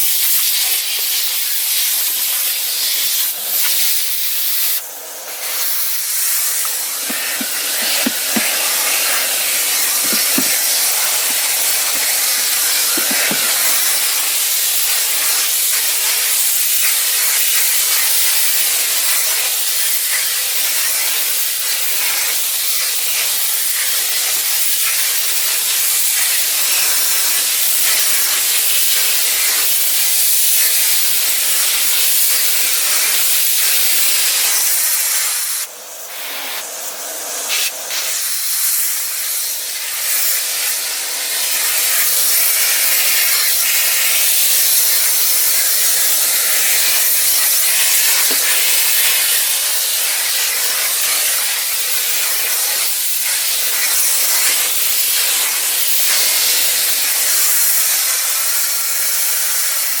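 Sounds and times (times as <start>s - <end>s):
vacuum cleaner running: 0.7s - 58.9s.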